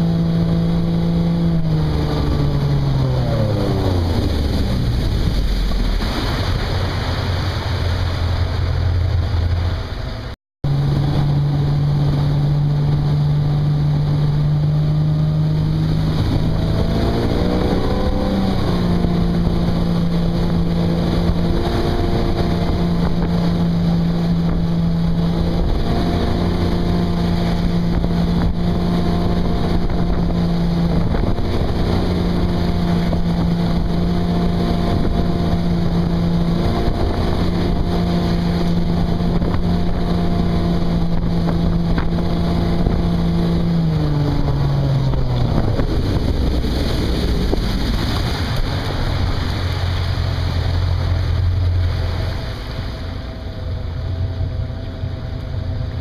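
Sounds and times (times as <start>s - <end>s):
boat engine running: 0.0s - 56.0s
wind on microphone: 0.0s - 56.0s.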